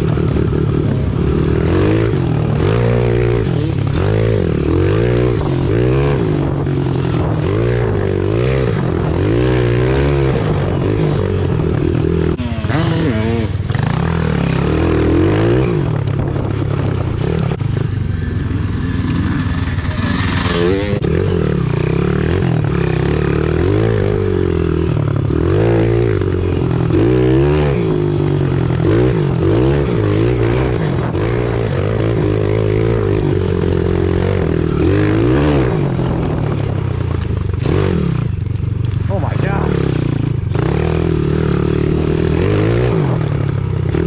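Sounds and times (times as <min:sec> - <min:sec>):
pit bike engine revving: 0:00.0 - 0:44.0.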